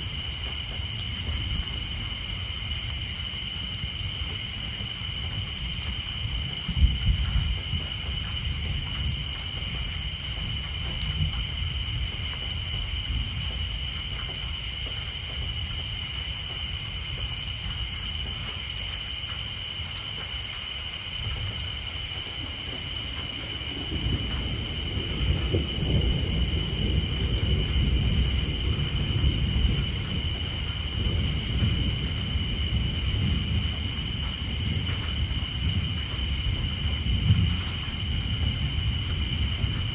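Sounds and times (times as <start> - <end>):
thunder rumbling: 0.0 - 19.3, 21.2 - 39.9
rain on a tin roof: 0.0 - 39.9.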